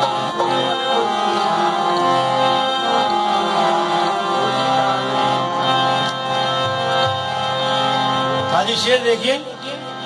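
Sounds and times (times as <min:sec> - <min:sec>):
harmonium melody in held notes: 0:00.0 - 0:10.0.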